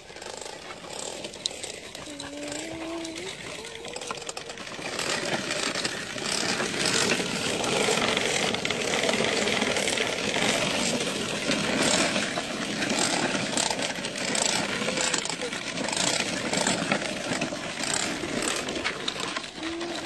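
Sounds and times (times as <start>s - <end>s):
plastic toy trucks rattling on dirt: 0.0s - 20.0s.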